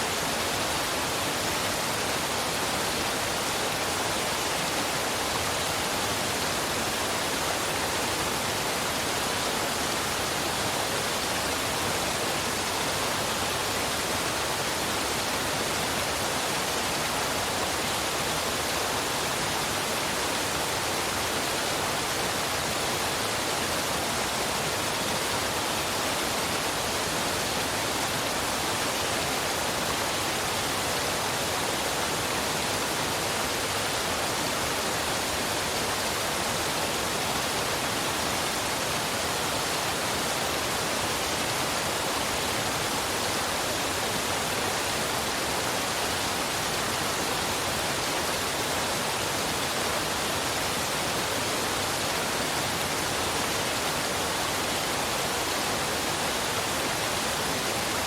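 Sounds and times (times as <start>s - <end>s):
waterfall and river rushing: 0.0s - 58.0s.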